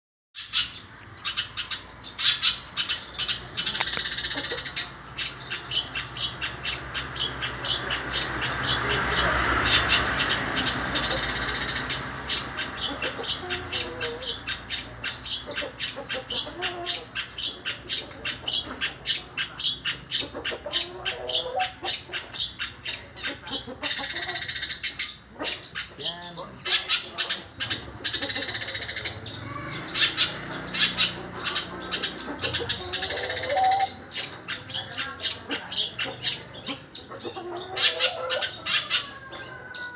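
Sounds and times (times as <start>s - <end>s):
bird harsh chatter: 0.4s - 39.9s.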